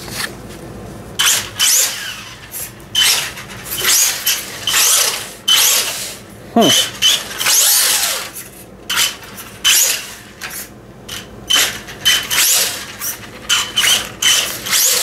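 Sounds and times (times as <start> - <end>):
wheels spinning on floor: 1.2 - 6.2, 6.8 - 15.0.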